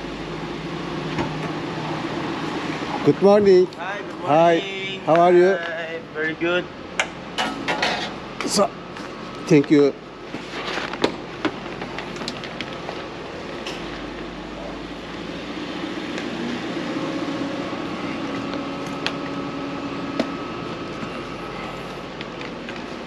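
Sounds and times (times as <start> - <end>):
car engine idling: 0.0 - 10.3, 11.1 - 23.0.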